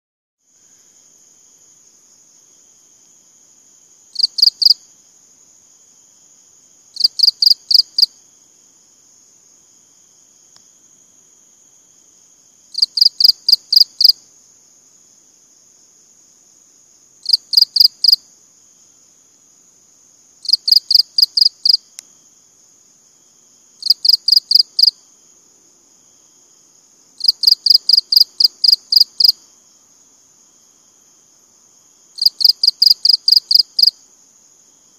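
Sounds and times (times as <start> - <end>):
cricket chirping bursts: 0.5 - 34.9.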